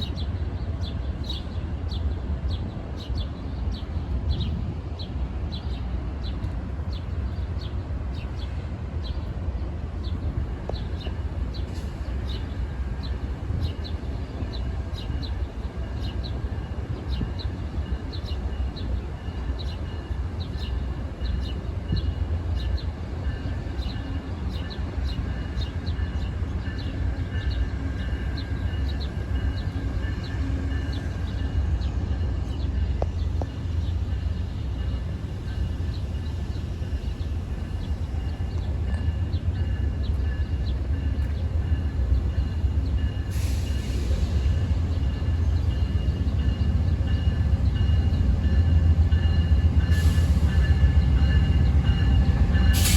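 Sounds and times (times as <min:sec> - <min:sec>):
train rumbling by: 0:00.0 - 0:52.9.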